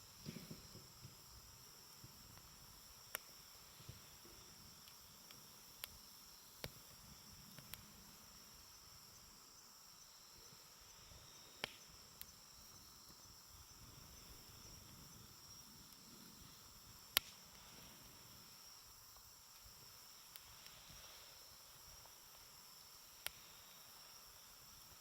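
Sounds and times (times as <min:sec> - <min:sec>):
campfire crackling and popping: 0:00.0 - 0:09.4, 0:10.5 - 0:23.6
crickets chirring: 0:00.0 - 0:25.0.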